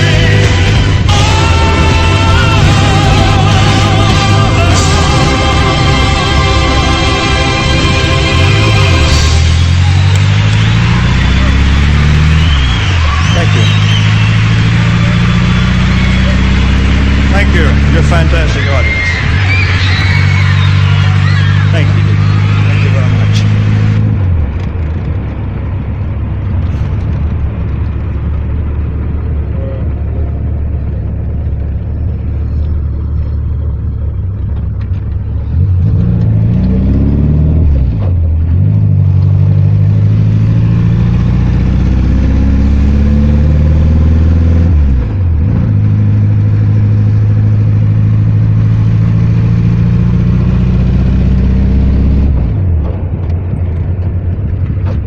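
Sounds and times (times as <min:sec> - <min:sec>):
vehicle engine shifting gears: 0:00.0 - 0:55.0.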